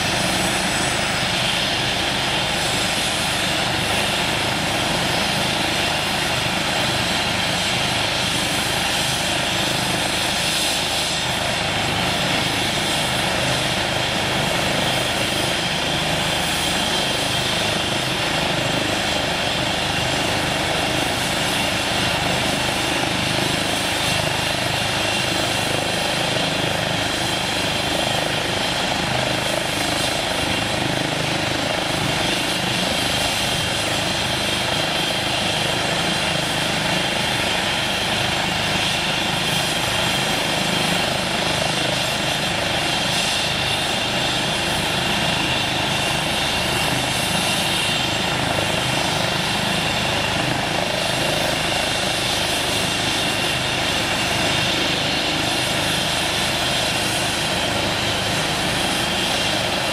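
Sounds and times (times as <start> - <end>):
helicopter rumble: 0.0 - 59.9.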